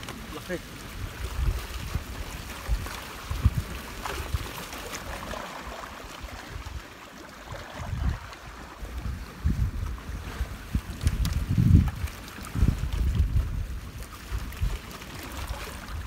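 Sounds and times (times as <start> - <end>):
waves washing over rocks: 0.0 - 16.0
wind buffeting microphone: 0.9 - 5.4, 6.2 - 16.0.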